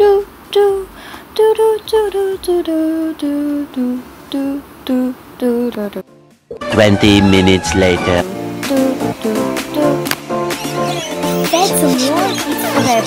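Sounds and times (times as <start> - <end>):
high voice singing: 0.0 - 7.4, 8.0 - 13.0.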